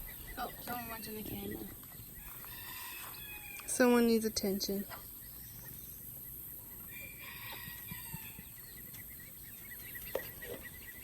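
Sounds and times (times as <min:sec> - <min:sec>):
chickens calling faintly: 0:00.0 - 0:11.0.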